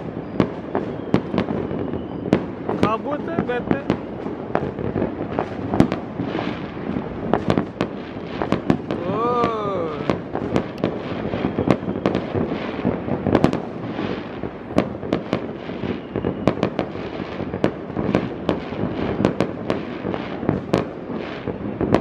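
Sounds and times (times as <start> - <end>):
fireworks booming and crackling: 0.0 - 22.0.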